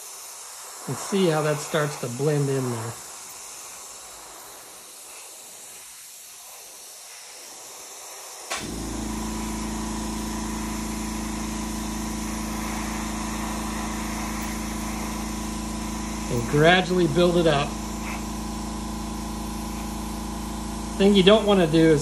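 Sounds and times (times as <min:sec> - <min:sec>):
air compressor humming: 0:00.0 - 0:22.0
airbrush hissing: 0:00.0 - 0:22.0.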